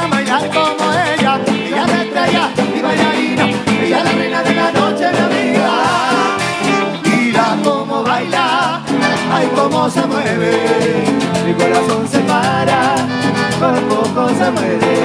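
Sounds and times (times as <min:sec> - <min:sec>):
accordion: 0:00.0 - 0:15.0
guitar: 0:00.0 - 0:15.0
percussion beat: 0:00.0 - 0:15.0.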